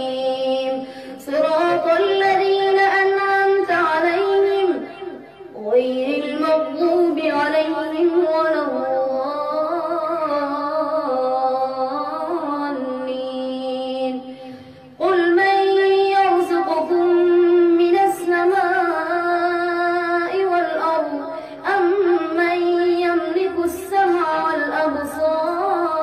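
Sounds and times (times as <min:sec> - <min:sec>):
boy reciting melodically: 0:00.0 - 0:26.0.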